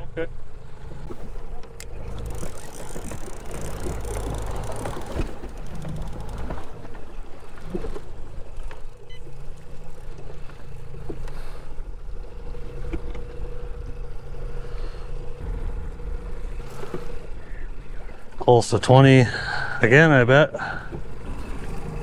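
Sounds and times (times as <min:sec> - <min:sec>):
outboard motor humming: 0:00.0 - 0:22.0
water noise: 0:00.0 - 0:22.0
wind: 0:00.0 - 0:22.0.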